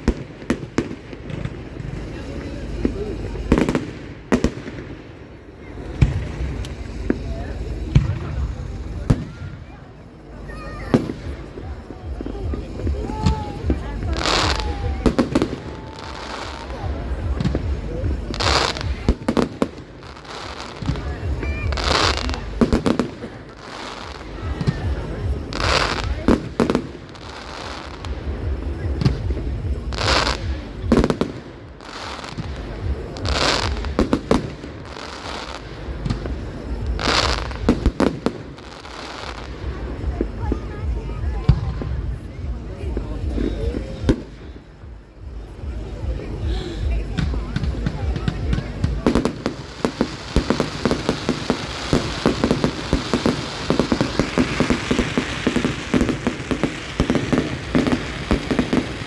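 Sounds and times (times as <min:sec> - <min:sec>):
fireworks bursting with sharp bangs: 0:00.0 - 0:59.0
fireworks hissing and crackling: 0:00.0 - 0:59.0.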